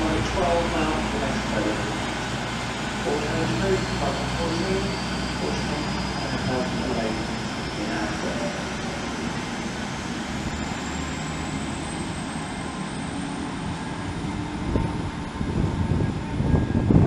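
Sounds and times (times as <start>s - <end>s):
faint high whine rising: 0.0s - 17.0s
train rumble pulling away: 0.0s - 17.0s.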